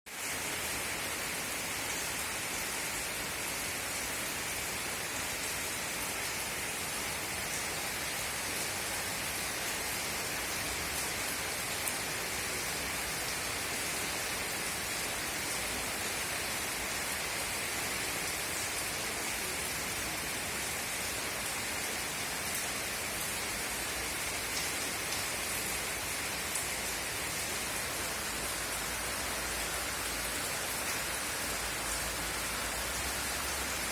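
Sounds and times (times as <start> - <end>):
rain hissing: 0.1 - 33.9.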